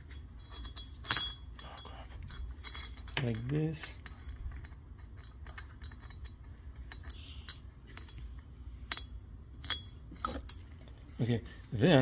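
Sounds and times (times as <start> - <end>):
steady low hum: 0.0 - 12.0
metallic valve clicks and clinks: 0.4 - 8.2, 8.9 - 10.6.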